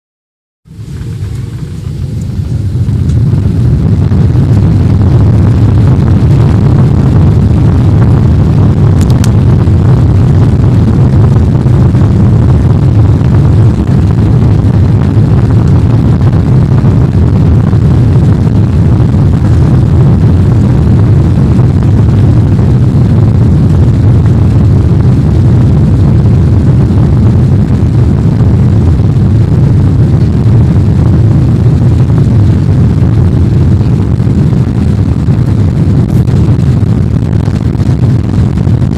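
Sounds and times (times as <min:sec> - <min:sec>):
jet engines rumbling: 0:00.7 - 0:38.9.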